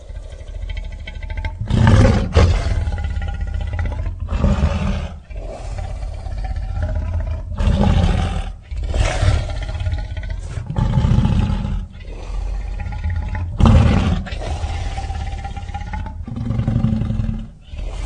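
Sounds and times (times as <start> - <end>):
dinosaur roars and growls: 0.0 - 18.0.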